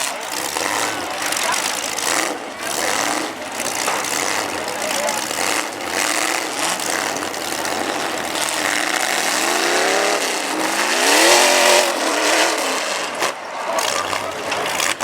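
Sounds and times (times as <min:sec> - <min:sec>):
engine revving: 0:00.0 - 0:15.0
truck engines running hard: 0:00.0 - 0:15.0.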